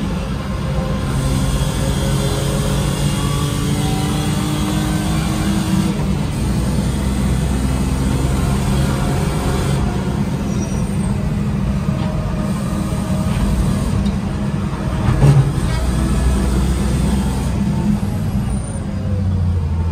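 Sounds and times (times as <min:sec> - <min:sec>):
car engine from inside cabin: 0:00.0 - 0:19.9
road and tyre noise: 0:00.0 - 0:19.9.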